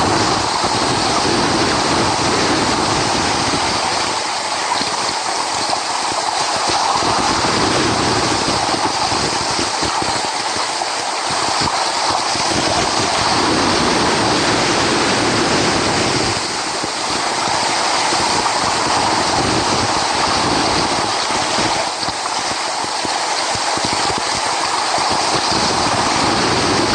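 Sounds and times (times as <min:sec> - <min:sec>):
waves breaking and washing in: 0:00.0 - 0:26.9.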